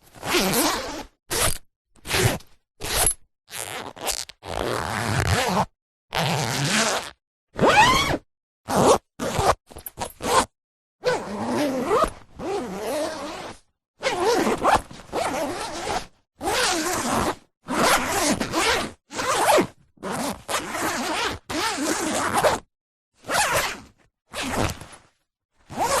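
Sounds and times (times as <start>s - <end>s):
zipper being pulled: 0.1s - 26.0s.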